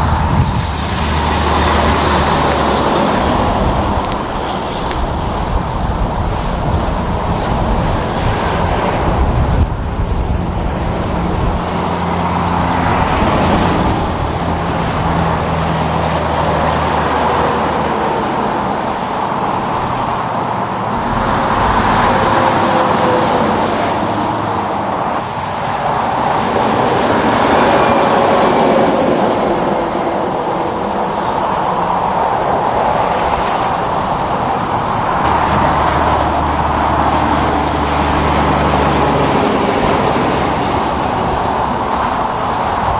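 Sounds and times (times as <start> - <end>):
heavy truck engine drone: 0.0 - 42.9
highway traffic passing: 0.0 - 42.9.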